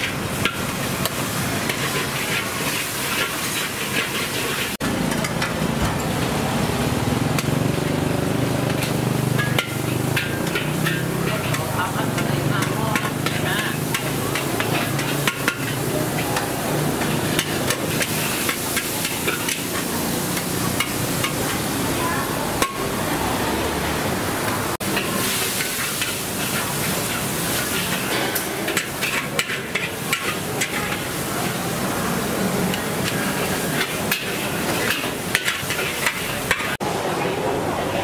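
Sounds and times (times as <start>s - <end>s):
frying hiss: 0.0s - 38.0s.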